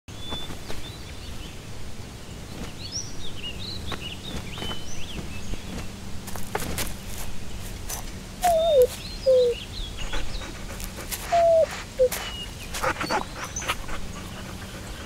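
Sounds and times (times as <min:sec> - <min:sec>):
low outdoor background hum: 0:00.1 - 0:15.0
songbirds chirping and whistling: 0:00.1 - 0:15.0.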